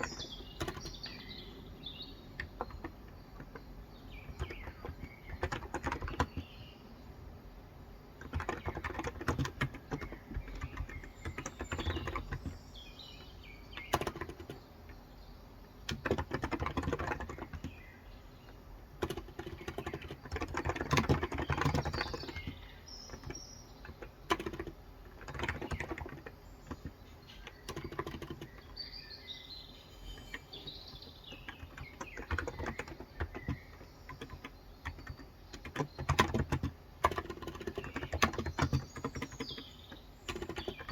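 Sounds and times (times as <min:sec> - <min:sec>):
typing on keyboard: 0:00.0 - 0:06.6, 0:08.2 - 0:12.6, 0:13.2 - 0:14.6, 0:15.8 - 0:28.8, 0:30.1 - 0:40.9
birds chirping faintly: 0:00.0 - 0:40.9.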